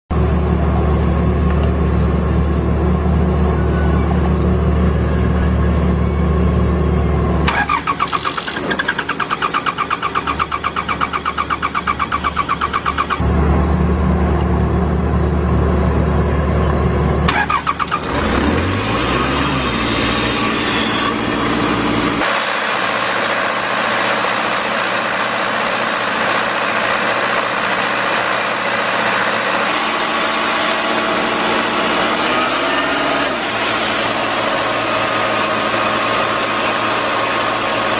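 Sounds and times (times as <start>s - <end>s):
diesel engine running: 0.1s - 37.9s
diesel engine cranking: 0.2s - 37.9s.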